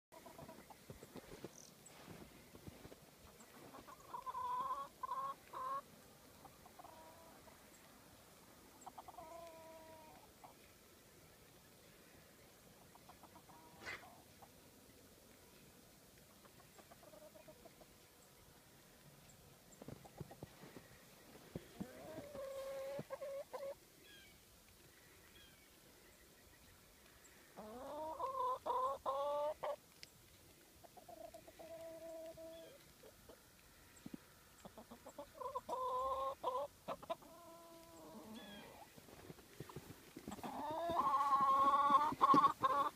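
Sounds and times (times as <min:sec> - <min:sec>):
chickens calling: 0:00.1 - 0:10.8, 0:12.4 - 0:15.1, 0:16.2 - 0:18.6, 0:19.8 - 0:42.9.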